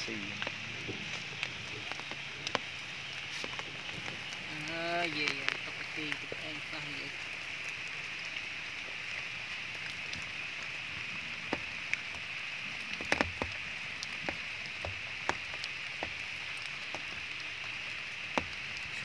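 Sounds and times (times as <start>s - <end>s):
drops ticking: 0.0s - 19.0s
rain hissing: 0.0s - 19.0s.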